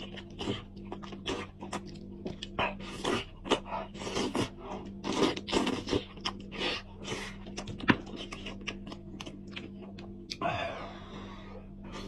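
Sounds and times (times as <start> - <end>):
wet chewing and lip-smacking: 0.0 - 10.4
steady low hum: 0.0 - 12.0.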